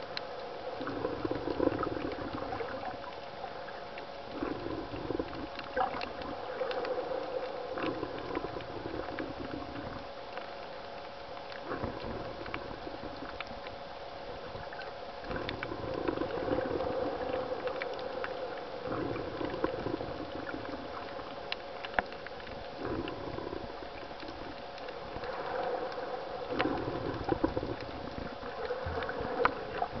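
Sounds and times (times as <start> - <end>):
sharp underwater clicks: 0.0 - 30.0
steady hum: 0.0 - 30.0.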